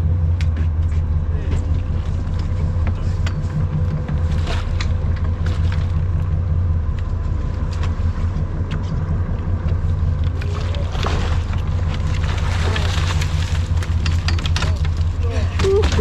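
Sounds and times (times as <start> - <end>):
boat engine humming: 0.0 - 16.0
water splashing against hull: 0.2 - 16.0.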